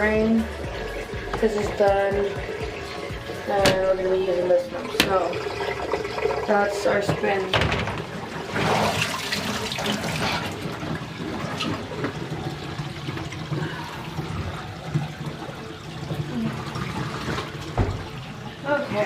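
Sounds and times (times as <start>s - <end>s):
water draining from washer tub: 0.0s - 19.0s.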